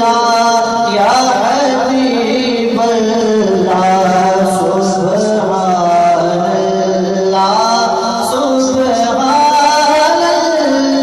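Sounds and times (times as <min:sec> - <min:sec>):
man chanting into a microphone: 0:00.0 - 0:11.0.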